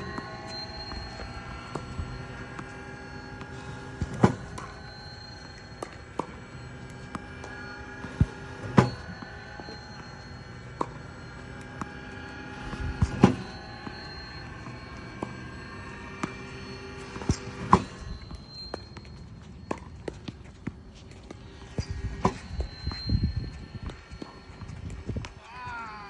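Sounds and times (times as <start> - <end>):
ball machine whirring hum: 0.0 - 26.0.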